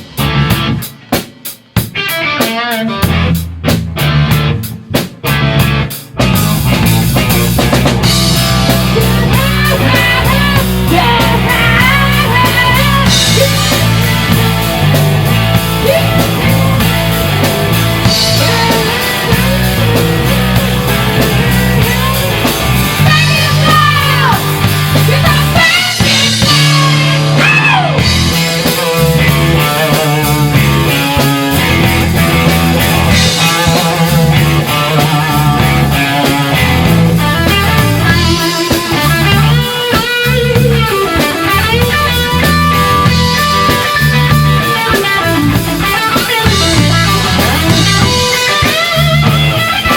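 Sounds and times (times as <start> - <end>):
bending lead guitar line: 0.0 - 1.1, 1.8 - 49.9
bass guitar: 0.0 - 49.9
drum kit: 0.0 - 49.9
electric guitars: 0.0 - 49.9.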